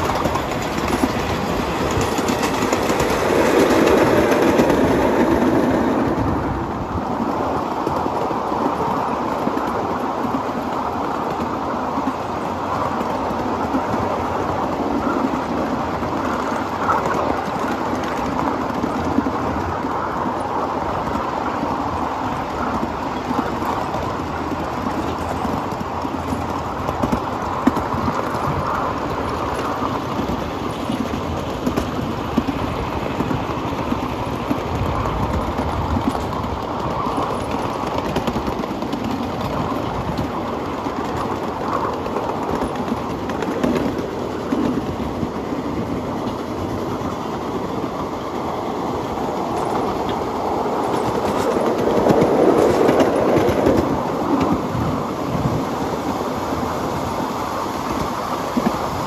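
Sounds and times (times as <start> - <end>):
train cars rolling on rails: 0.0 - 59.0.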